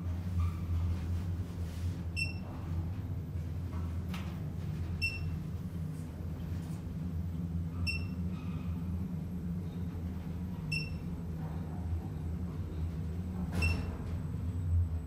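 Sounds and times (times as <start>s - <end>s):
lift machinery hum: 0.0s - 15.0s.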